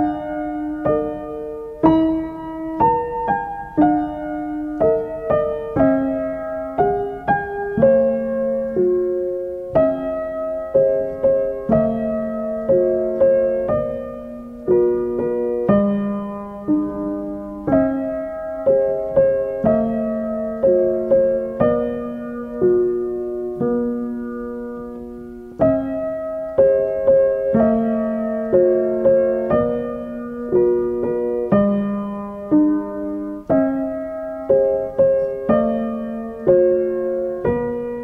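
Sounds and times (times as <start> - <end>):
slow gentle piano music: 0.0 - 38.0.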